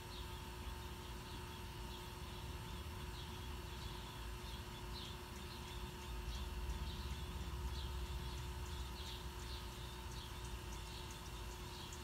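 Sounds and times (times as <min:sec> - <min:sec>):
thin electrical hum: 0:00.0 - 0:12.0.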